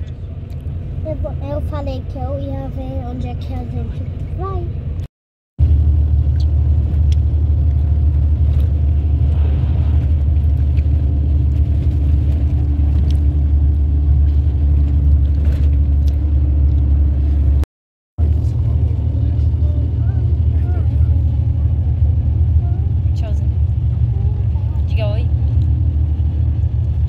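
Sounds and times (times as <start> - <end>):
bus engine and road noise: 0.0 - 27.0.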